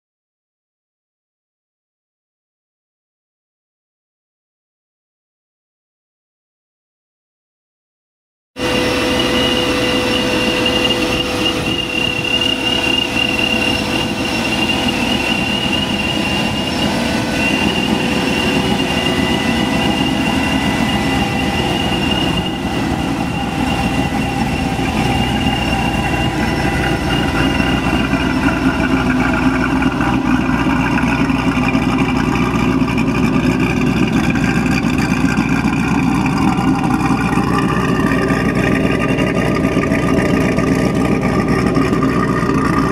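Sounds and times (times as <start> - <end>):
car engine running: 8.6 - 42.9
supercharger whine: 8.6 - 42.9.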